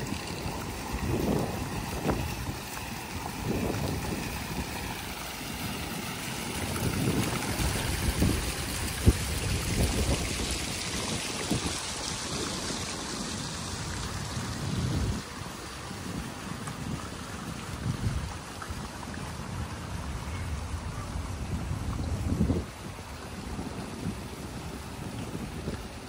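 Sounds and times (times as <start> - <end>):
fountain water splashing: 0.0 - 26.0
wind on microphone: 0.0 - 26.0.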